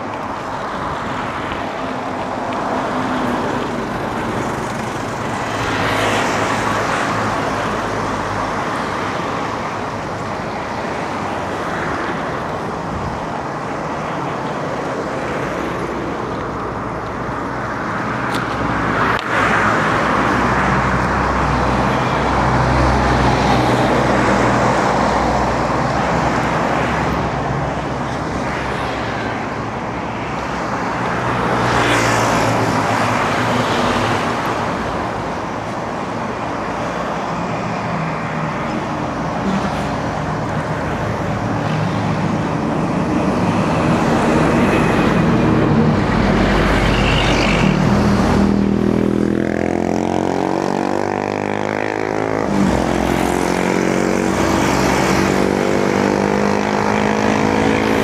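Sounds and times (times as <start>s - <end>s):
car engines passing: 0.0s - 58.0s.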